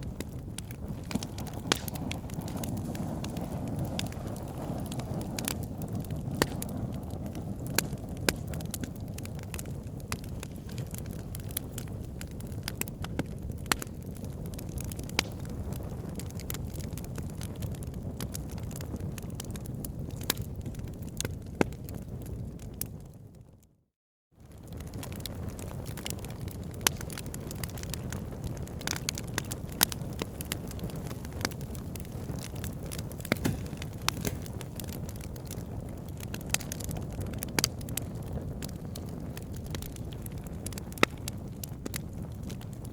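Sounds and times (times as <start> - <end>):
campfire wood crackling and popping: 0.0 - 23.6, 24.4 - 42.9.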